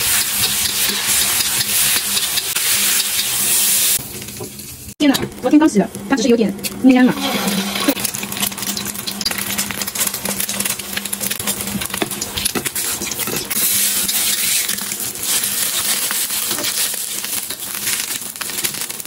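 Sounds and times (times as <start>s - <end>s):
metal spatula scraping: 0.0s - 4.0s, 7.0s - 18.6s
egg sizzling in hot oil: 0.0s - 19.0s.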